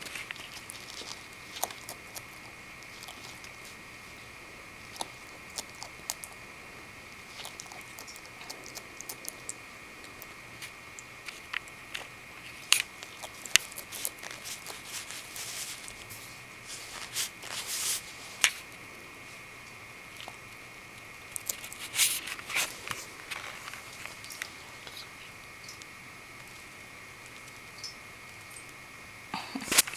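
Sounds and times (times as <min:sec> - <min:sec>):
lizard chewing crunches: 0:00.0 - 0:28.8.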